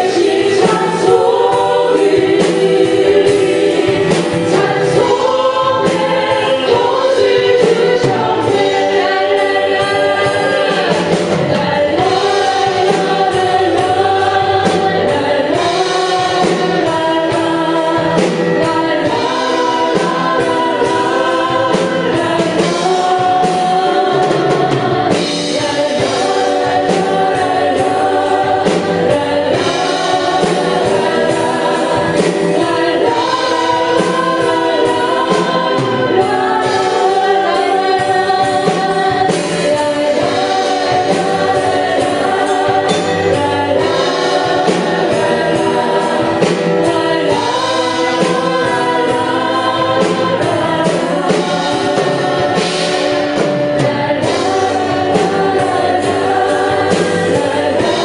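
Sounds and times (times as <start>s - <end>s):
band playing: 0.0s - 58.0s
group singing worship song: 0.0s - 58.0s.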